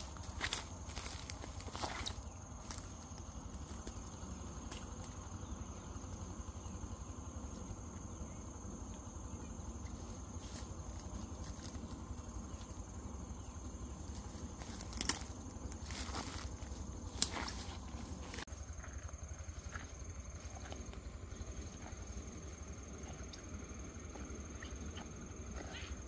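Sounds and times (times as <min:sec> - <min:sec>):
high-pitched insect drone: 0:00.0 - 0:26.0
low background rumble: 0:00.0 - 0:26.0.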